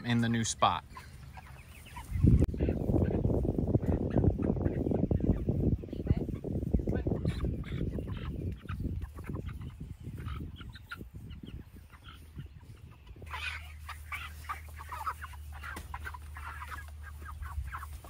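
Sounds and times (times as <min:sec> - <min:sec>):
chickens clucking and chirping: 0:00.0 - 0:18.0.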